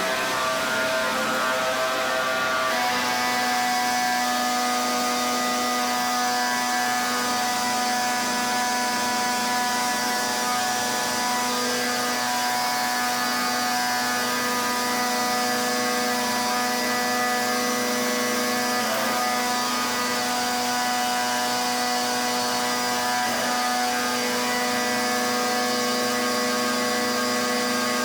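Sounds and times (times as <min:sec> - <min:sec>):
pressure washer whine: 0:00.0 - 0:28.0.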